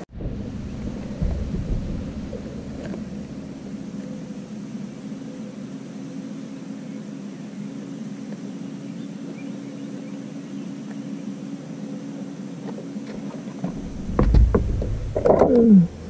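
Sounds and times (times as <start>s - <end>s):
even hiss: 0.0s - 16.0s
motor hum with low tones: 0.0s - 16.0s.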